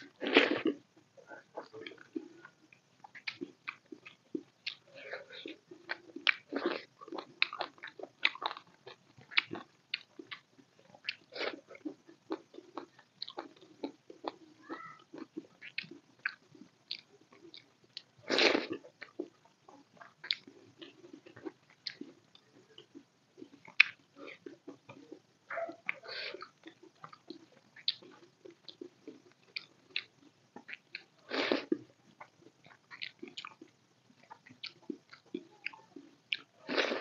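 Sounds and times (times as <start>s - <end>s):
wet chewing: 1.6s - 37.0s.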